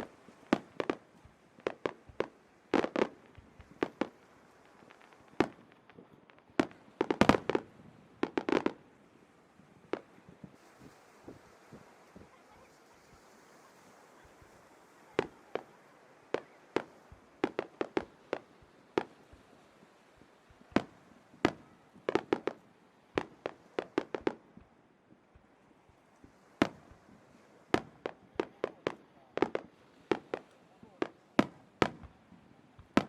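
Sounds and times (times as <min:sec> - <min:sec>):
fireworks bursting with sharp bangs: 0:00.0 - 0:33.0.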